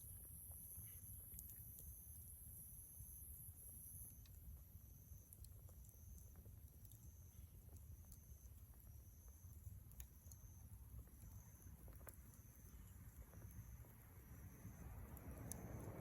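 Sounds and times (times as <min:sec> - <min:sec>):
campfire crackling: 0:00.0 - 0:16.0
low steady rumble: 0:00.0 - 0:16.0.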